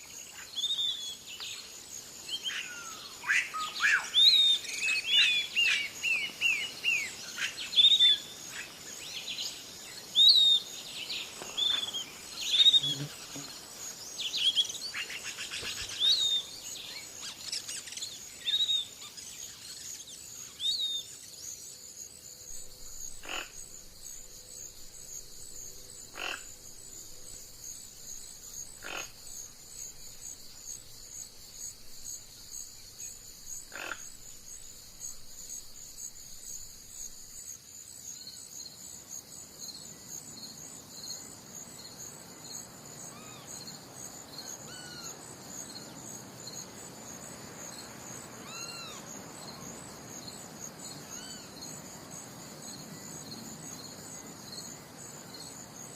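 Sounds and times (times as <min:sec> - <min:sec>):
high insect drone: 0:00.0 - 0:55.9.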